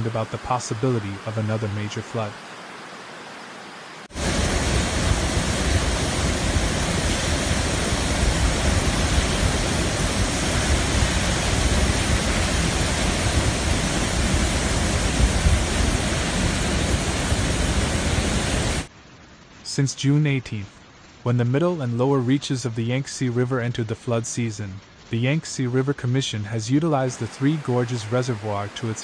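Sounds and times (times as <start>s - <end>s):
rushing roar of falling water: 0.0s - 20.2s, 21.0s - 29.0s.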